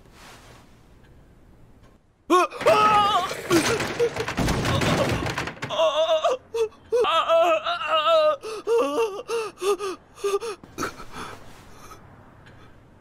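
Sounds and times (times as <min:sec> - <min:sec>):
young man gasping and whimpering: 0:02.3 - 0:12.8.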